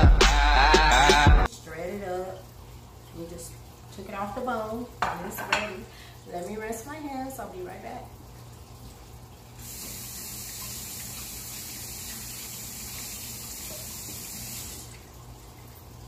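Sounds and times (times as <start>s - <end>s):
faucet water running: 1.4s - 16.0s.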